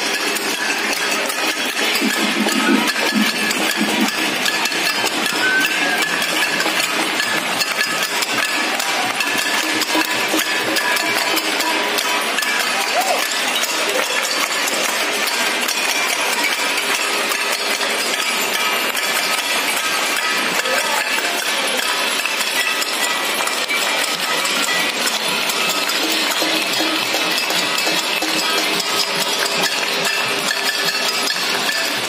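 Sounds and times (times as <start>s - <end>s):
crowd clapping: 0.0s - 32.0s
utensils banging on steel plates: 0.0s - 32.0s.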